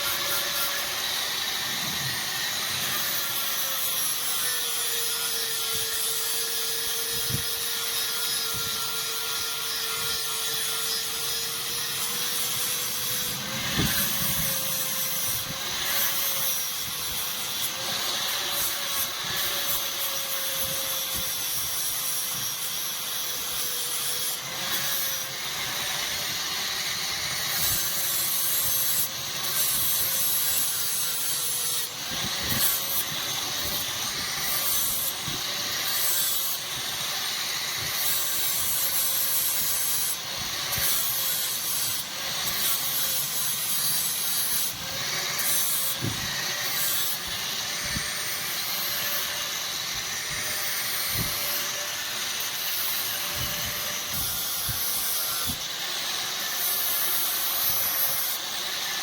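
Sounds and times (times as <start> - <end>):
electric grinder motor hum: 0.0 - 59.0
grinder rasping on steel: 0.0 - 59.0.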